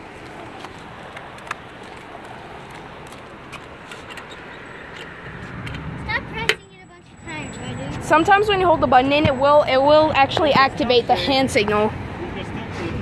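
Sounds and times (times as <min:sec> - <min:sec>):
road traffic passing cars: 0:00.0 - 0:13.0.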